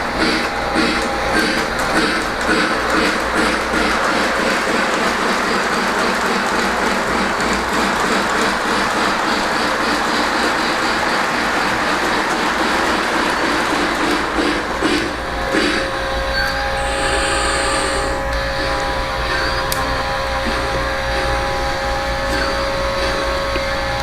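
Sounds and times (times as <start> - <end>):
model train rumbling: 0.0 - 24.0
wheels clattering on rails: 0.0 - 24.0.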